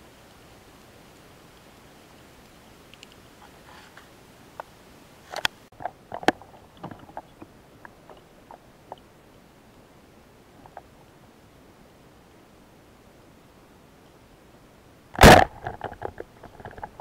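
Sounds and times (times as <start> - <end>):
steady underwater hiss: 0.0 - 15.6.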